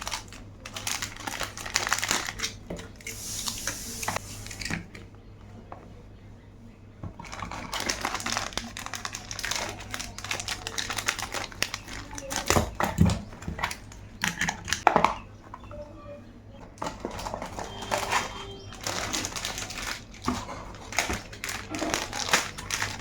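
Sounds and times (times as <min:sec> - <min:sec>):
packaging rustling and crinkling: 0:00.0 - 0:04.9, 0:07.0 - 0:15.2, 0:16.8 - 0:23.0.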